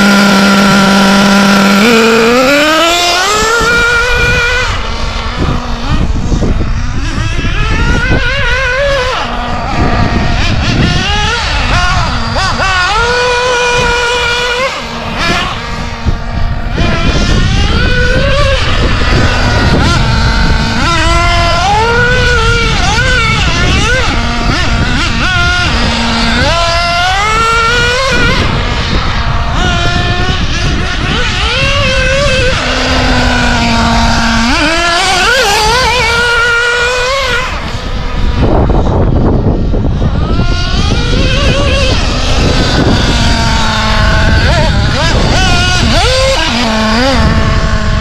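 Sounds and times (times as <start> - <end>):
model car engine revving: 0.0 - 48.0
wind rumble on microphone: 0.0 - 48.0.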